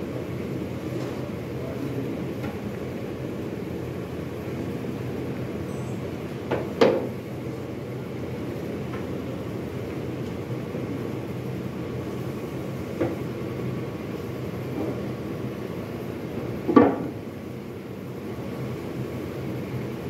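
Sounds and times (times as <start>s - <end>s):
steady factory hum: 0.0s - 20.0s.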